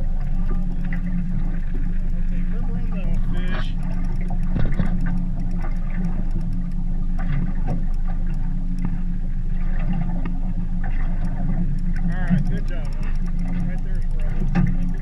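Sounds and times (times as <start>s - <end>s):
boat motor droning: 0.0s - 15.0s
faint quick ticking: 0.0s - 15.0s.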